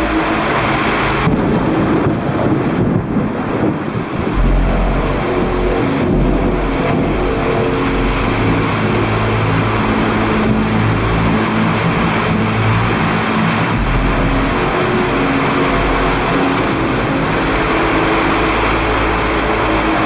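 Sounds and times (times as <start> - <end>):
deep rumble: 0.0 - 20.0
loud low droning tones: 0.0 - 20.0.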